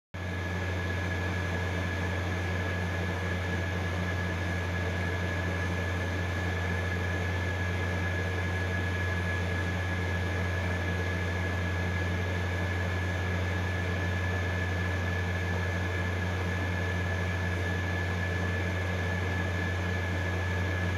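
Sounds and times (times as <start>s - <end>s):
steady mechanical hum: 0.2s - 20.9s.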